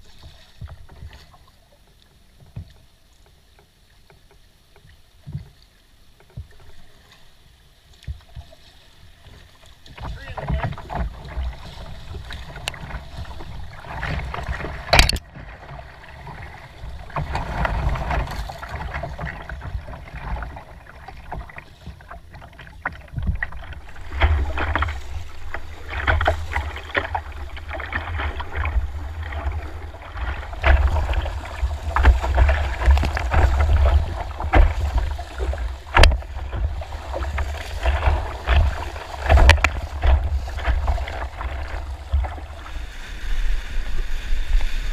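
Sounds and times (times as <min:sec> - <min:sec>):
paddle strokes splashing: 0:00.0 - 0:44.9
whitewater slapping kayak hull: 0:00.0 - 0:44.9.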